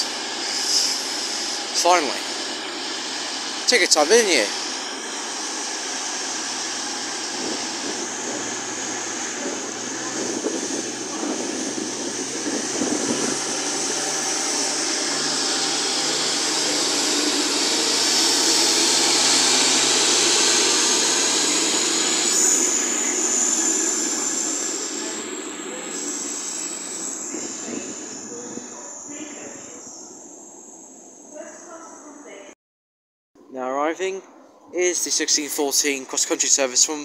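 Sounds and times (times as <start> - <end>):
high whine rising in pitch: 0.0 - 32.1
diesel train passing: 0.0 - 32.5, 34.3 - 37.0.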